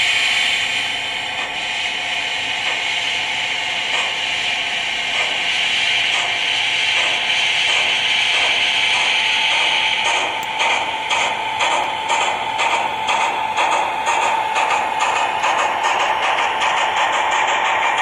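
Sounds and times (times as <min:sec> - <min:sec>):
model steam locomotive hiss: 0:00.0 - 0:18.0
soft slow locomotive chuffs: 0:00.0 - 0:18.0.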